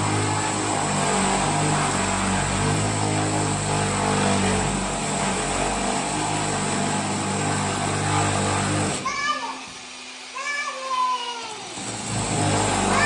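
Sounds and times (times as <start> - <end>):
electric drill grinding stone: 0.0 - 13.0.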